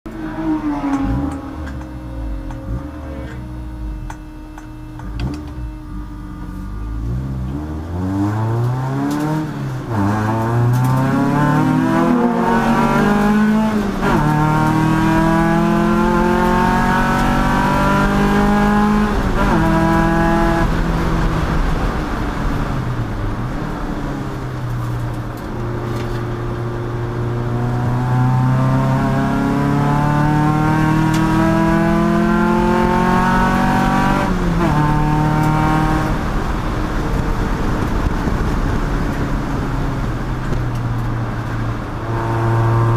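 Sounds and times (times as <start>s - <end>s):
race car engine accelerating: 0.1s - 24.0s, 24.6s - 42.9s.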